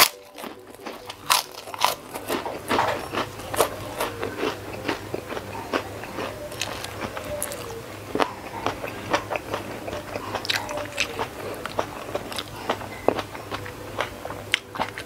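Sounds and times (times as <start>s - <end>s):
chewing and crunching shrimp: 0.0s - 15.0s.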